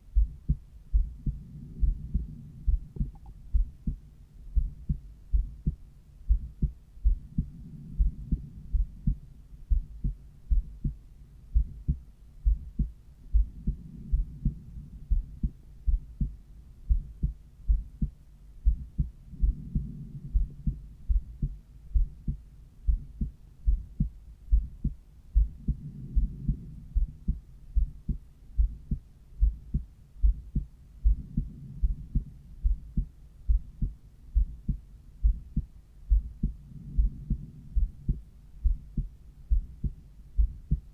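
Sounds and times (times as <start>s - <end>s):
heartbeat lub-dub thumps: 0.0s - 40.9s.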